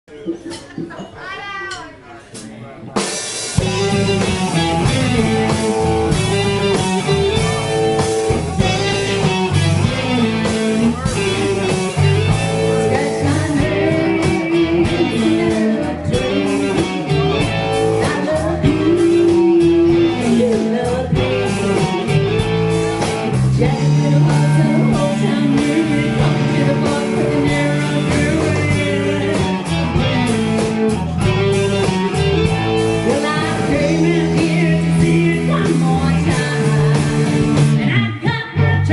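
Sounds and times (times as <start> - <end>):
electric guitar: 3.0 - 38.9
rock band playing: 3.0 - 38.9.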